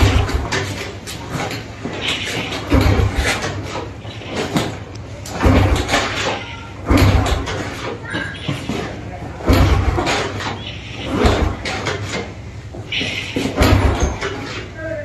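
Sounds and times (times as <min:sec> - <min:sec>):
motorbike kick-start clunk: 0:00.0 - 0:14.7
engine turning over: 0:00.0 - 0:15.0.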